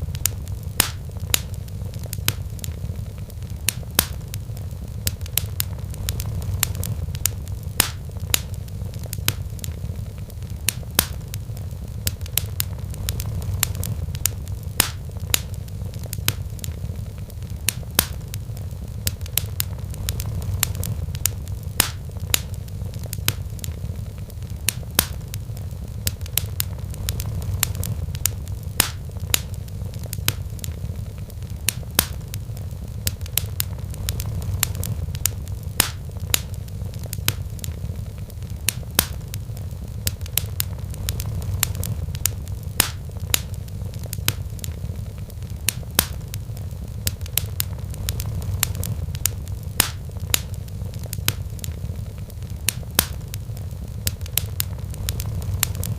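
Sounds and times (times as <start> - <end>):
low fire rumble: 0.0 - 55.9
wood fire crackling and popping: 0.0 - 55.9.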